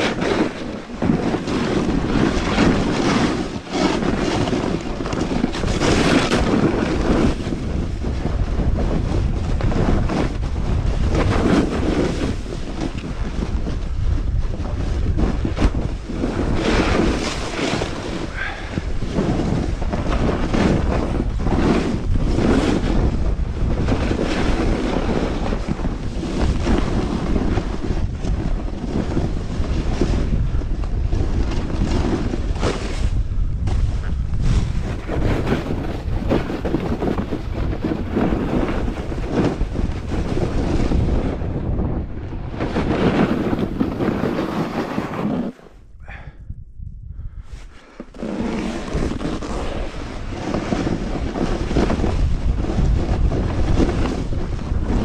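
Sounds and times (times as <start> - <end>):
snowboard scraping over snow: 0.0 - 46.3, 47.4 - 55.0
wind on microphone: 0.0 - 55.0.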